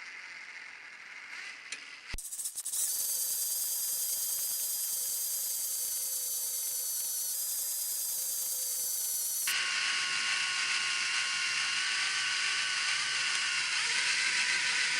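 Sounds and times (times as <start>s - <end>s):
power tool motor whining: 2.2s - 14.9s.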